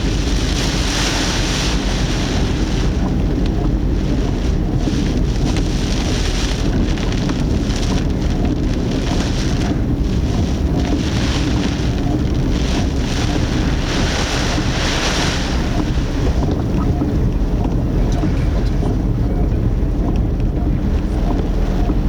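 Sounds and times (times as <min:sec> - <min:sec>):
wind and rain against car: 0:00.0 - 0:22.0.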